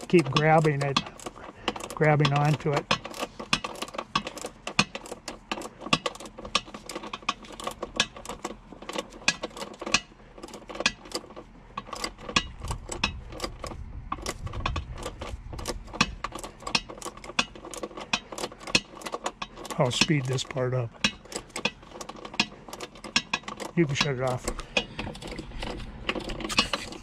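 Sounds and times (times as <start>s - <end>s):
socket ratchet clicking: 0.0s - 27.0s.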